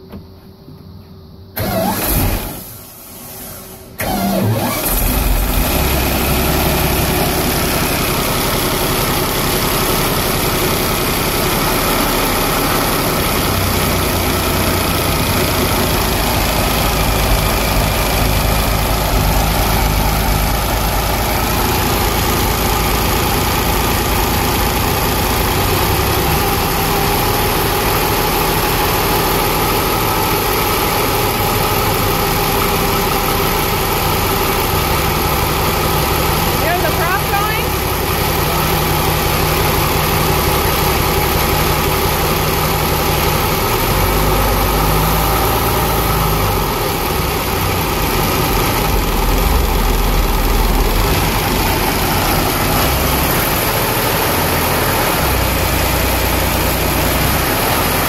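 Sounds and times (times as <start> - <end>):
boat engine idling: 4.0 - 58.0.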